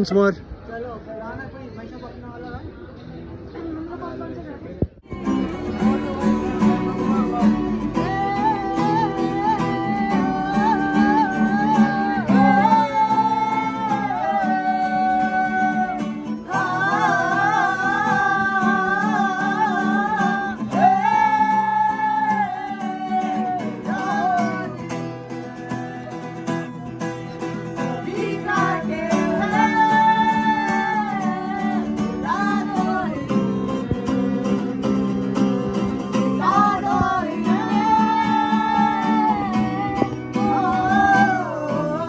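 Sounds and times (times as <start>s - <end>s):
acoustic guitars strumming: 5.0s - 42.0s
young woman singing: 5.1s - 26.4s, 27.8s - 42.0s.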